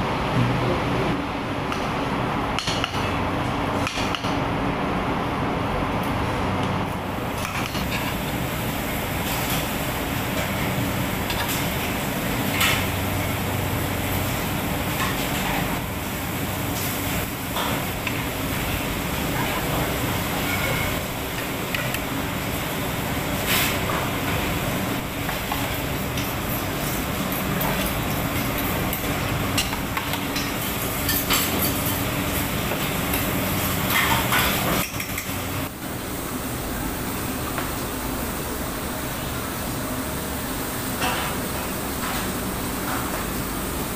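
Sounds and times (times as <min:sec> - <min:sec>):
kitchen machinery droning: 0:00.0 - 0:43.9.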